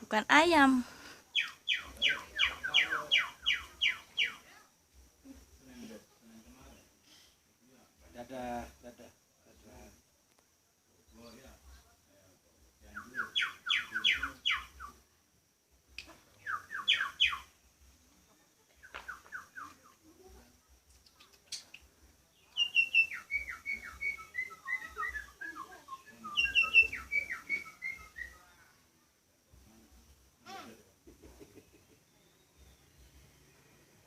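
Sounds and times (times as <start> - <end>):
songbird chirping: 0.0 - 7.1, 9.5 - 34.0.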